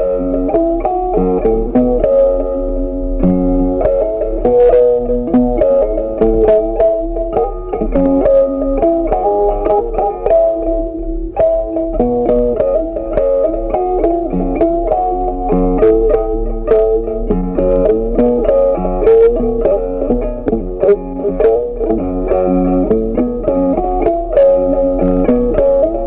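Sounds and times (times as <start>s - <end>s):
plucked guitar: 0.0s - 26.0s.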